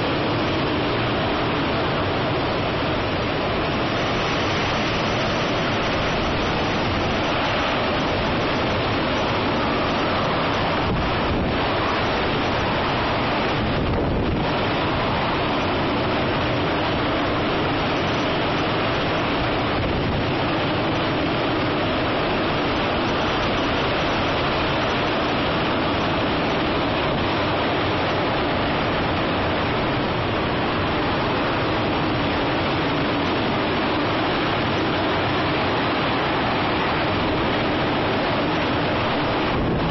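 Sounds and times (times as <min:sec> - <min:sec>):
storm wind and rain: 0:00.0 - 0:39.9.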